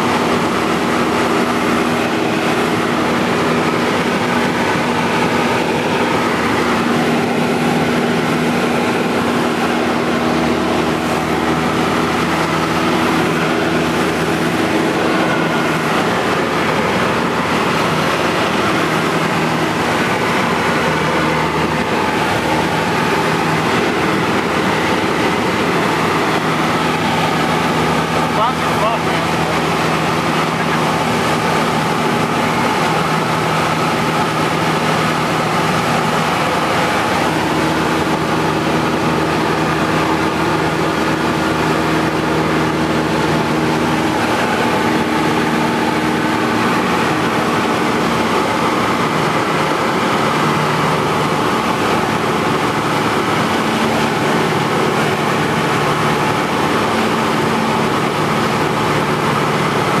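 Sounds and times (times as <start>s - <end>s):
propeller plane engine droning: 0.0s - 60.0s
rushing air: 0.0s - 60.0s.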